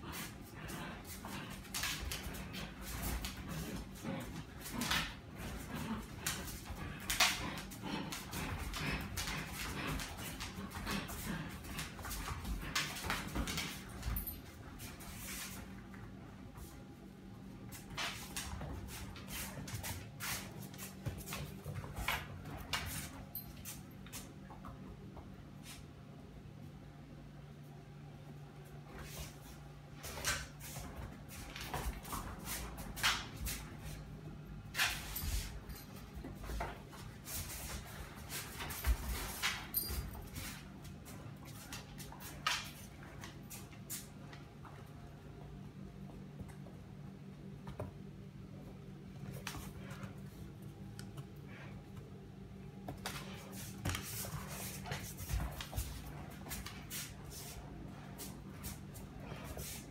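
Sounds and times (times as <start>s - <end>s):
dogs scuffling on hard floor: 0.0s - 16.8s, 17.6s - 25.9s, 28.9s - 44.9s, 52.8s - 59.9s.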